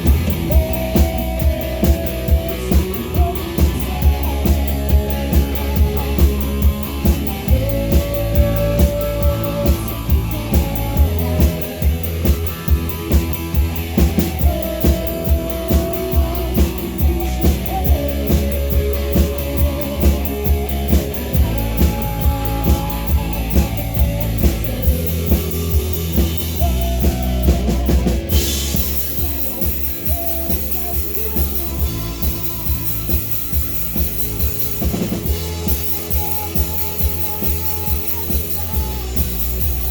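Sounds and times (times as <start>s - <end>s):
drum beat: 0.0s - 39.9s
person singing: 0.0s - 39.9s
rock band playing live: 0.0s - 39.9s.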